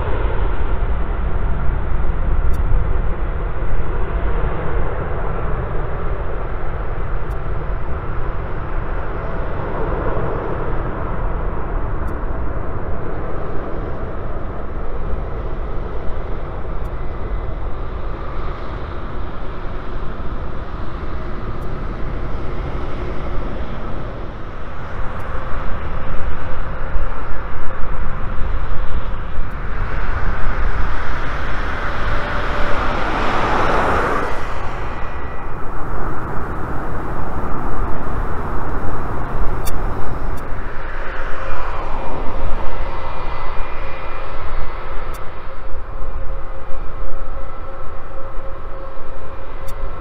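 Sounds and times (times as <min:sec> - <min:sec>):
jet engines roaring at take-off: 0:00.0 - 0:50.0.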